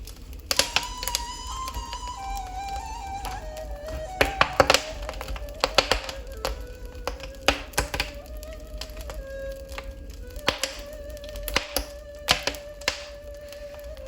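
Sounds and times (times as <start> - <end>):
wood fire crackling and popping: 0.0 - 14.0
flute playing slow melody: 0.4 - 14.0.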